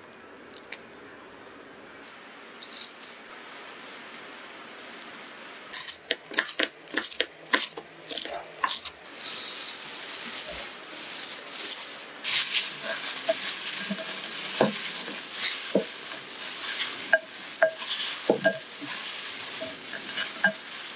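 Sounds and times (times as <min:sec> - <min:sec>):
steady hiss: 0:00.0 - 0:20.9.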